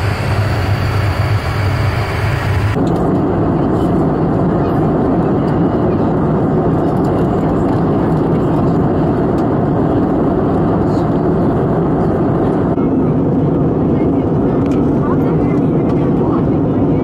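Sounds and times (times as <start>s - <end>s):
airplane cabin engine rush: 0.0s - 17.0s.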